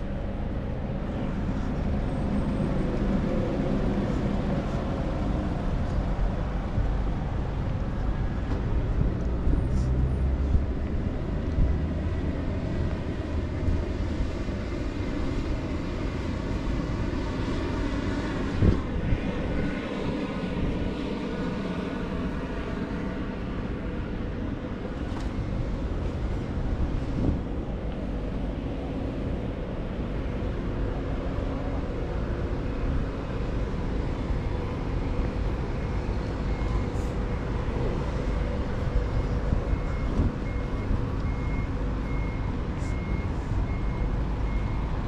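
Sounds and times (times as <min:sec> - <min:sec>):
vehicle engine and road rumble: 0:00.0 - 0:45.0.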